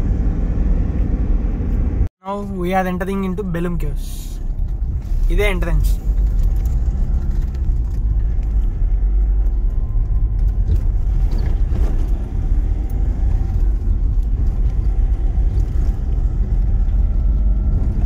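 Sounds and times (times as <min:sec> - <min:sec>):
car rumbling on dirt road: 0:00.0 - 0:18.0.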